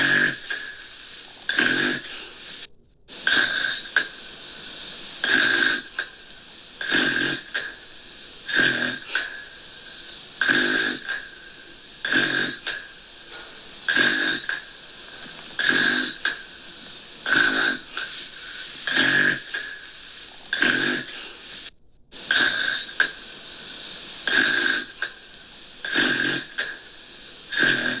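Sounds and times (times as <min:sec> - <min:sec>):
gentle snoring: 0:00.0 - 0:28.0
steady hiss: 0:00.0 - 0:28.0.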